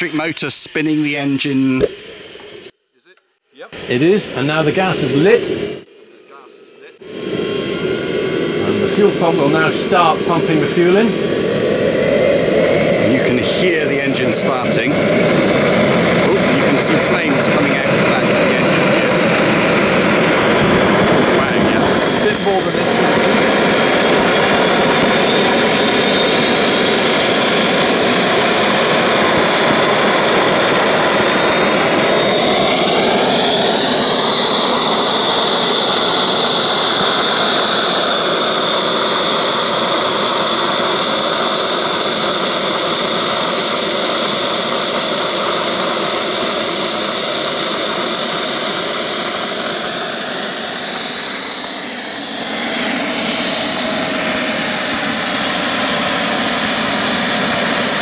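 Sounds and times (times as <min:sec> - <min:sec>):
model gas turbine running: 0:00.0 - 0:02.8, 0:03.7 - 0:58.0.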